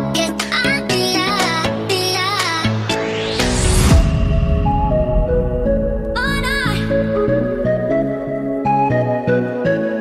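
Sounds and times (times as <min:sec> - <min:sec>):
electronic music: 0:00.1 - 0:09.6.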